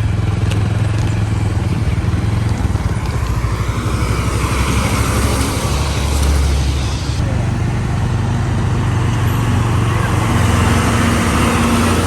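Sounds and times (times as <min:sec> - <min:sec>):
road traffic rushing: 0:00.0 - 0:12.0
vehicle engine humming: 0:00.0 - 0:12.0.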